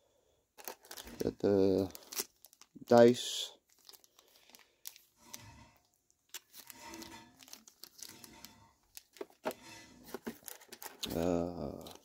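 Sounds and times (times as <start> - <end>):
plastic bag crinkling: 0.6 - 12.0.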